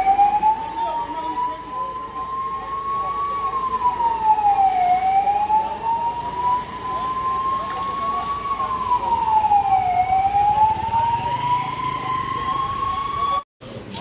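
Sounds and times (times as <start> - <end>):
siren wailing: 0.0 - 13.4.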